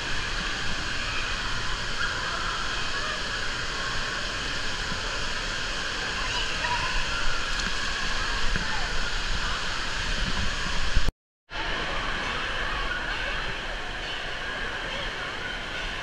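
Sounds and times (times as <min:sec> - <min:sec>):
faint voices: 0:00.0 - 0:16.0
rushing pool water: 0:00.0 - 0:16.0.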